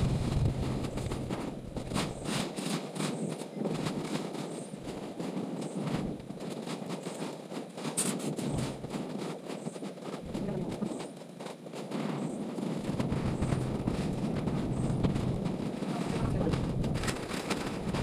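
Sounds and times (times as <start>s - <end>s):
sharp crackles and snaps: 0.0s - 18.0s
wind buffeting microphone: 0.0s - 18.0s.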